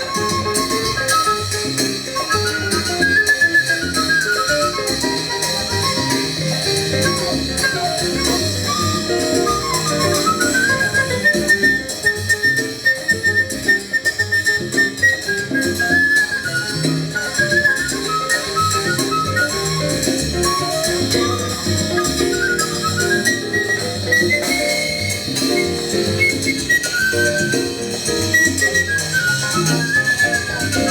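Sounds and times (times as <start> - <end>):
latin jazz ensemble playing: 0.0 - 30.9.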